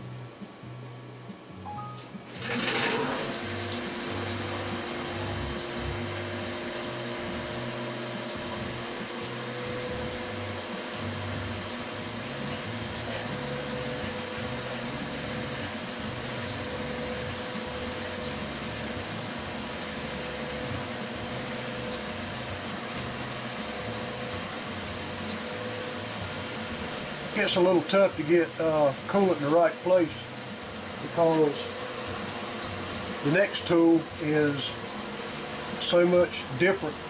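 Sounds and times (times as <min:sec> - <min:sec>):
faint motor tone: 0:00.0 - 0:37.0
coolant spraying: 0:02.2 - 0:37.0.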